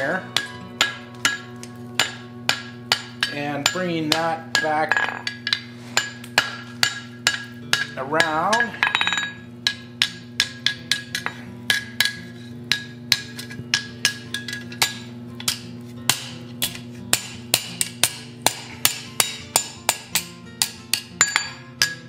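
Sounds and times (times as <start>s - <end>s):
hammer striking steel on anvil: 0.0s - 22.0s.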